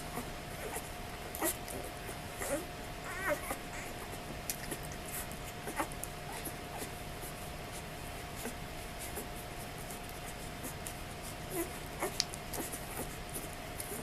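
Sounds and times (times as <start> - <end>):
faint steady hum: 0.0 - 14.0
puppies suckling clicks and smacks: 0.1 - 14.0.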